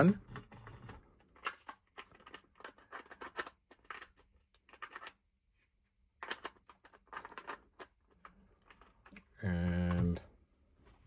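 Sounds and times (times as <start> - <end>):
small parts clicking and rustling: 0.3 - 5.4, 6.1 - 10.2.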